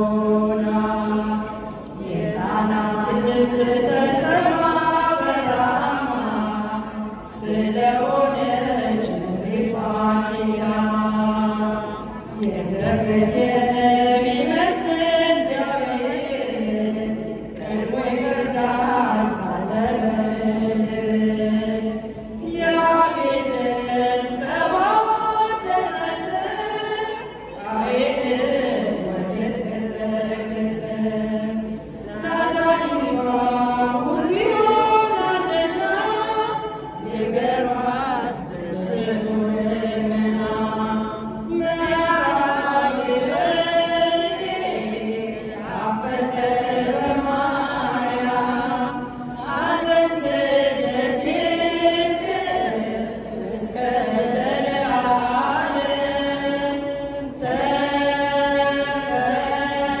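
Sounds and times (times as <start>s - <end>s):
women's choir singing a hymn: 0.0s - 60.0s.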